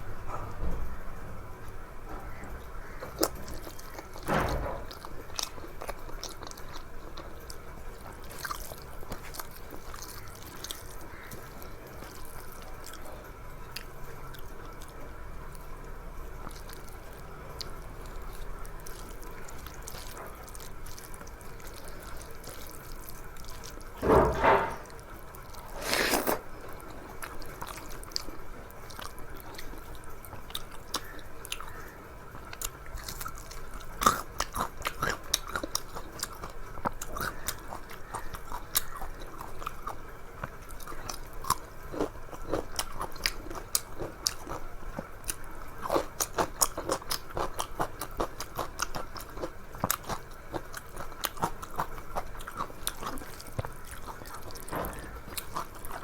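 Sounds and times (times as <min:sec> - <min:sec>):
soft chewing: 0:01.6 - 0:56.0.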